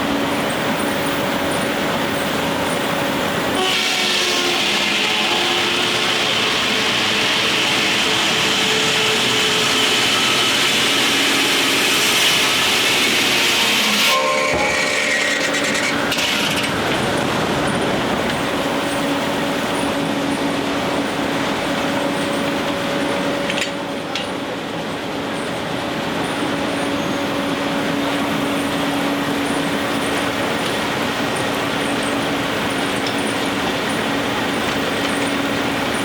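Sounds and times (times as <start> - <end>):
sawmill machinery rushing noise: 1.9 - 36.0.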